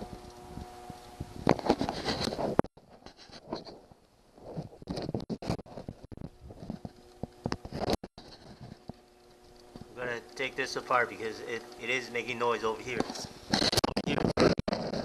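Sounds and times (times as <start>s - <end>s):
treadmill motor hum and whine: 0.0s - 13.7s
loud rough rattling and scraping: 1.4s - 3.8s, 4.4s - 15.0s.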